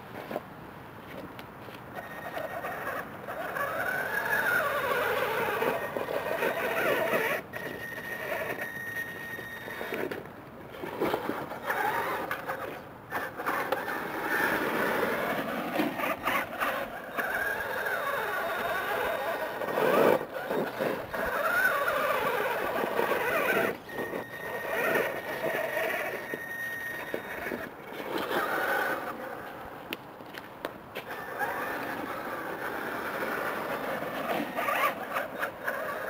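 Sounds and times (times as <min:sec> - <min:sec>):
tires scraping over rock: 0:00.1 - 0:36.0
toy truck electric motors whining: 0:01.9 - 0:29.7, 0:31.0 - 0:36.0.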